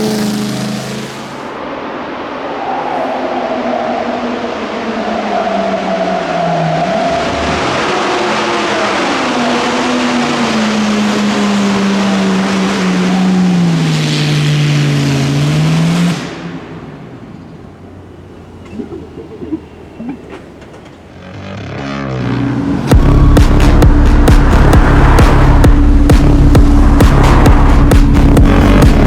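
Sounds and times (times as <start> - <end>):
racing engine revving: 0.0 - 29.0.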